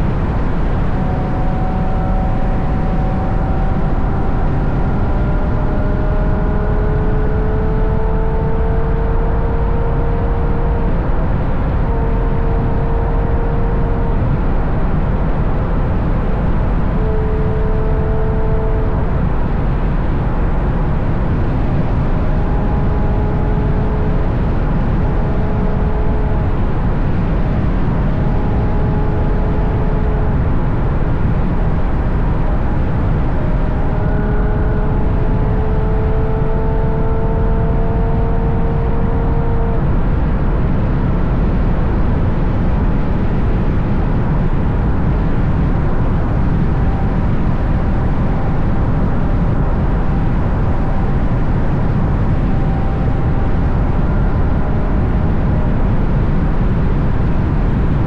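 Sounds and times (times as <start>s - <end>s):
car exhaust hum: 0.0s - 58.0s
wind rush: 0.0s - 58.0s.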